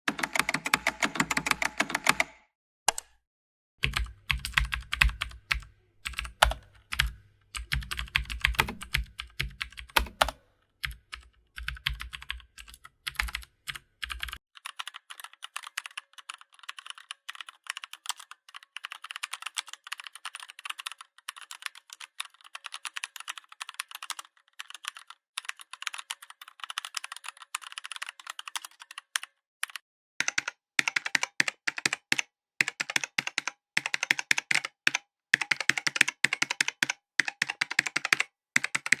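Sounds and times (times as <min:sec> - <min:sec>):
typing on computer keyboard: 0:00.1 - 0:03.0, 0:03.8 - 0:39.0.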